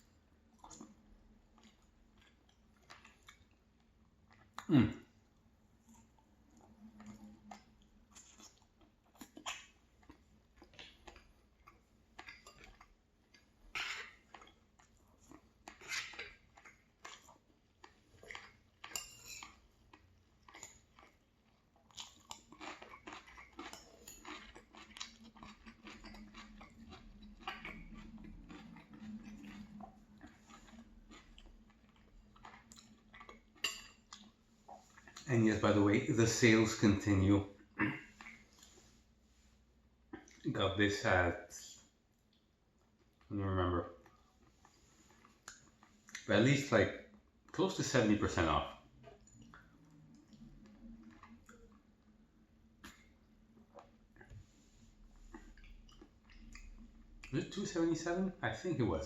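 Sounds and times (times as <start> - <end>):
person chewing food: 0.0 - 35.3, 37.6 - 40.4, 42.0 - 43.3, 43.9 - 46.3, 48.8 - 57.3.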